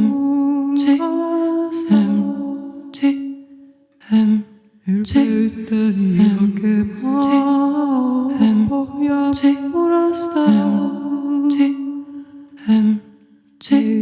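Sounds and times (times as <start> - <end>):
voices singing in close harmony: 0.0 - 3.5, 4.1 - 14.0.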